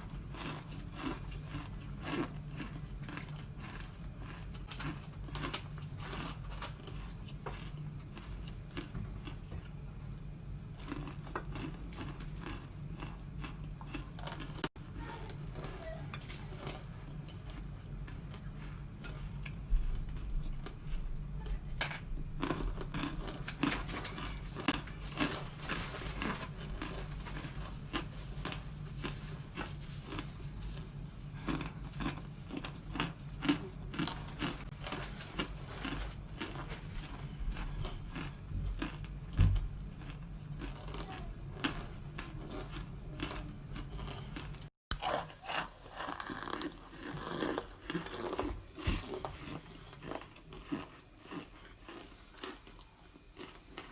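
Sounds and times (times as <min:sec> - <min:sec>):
chewing brittle crunchy food: 0:00.0 - 0:53.9.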